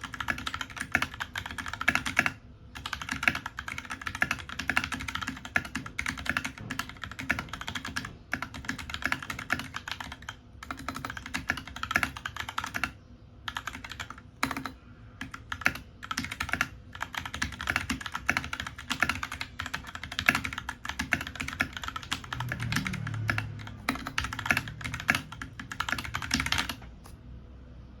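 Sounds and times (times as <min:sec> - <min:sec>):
fast typing on keyboard: 0:00.0 - 0:27.0.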